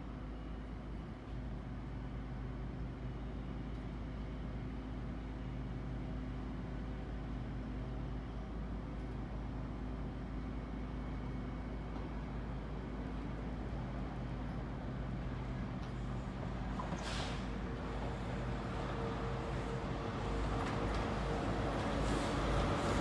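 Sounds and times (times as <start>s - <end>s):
diesel train engines droning: 1.7s - 23.0s.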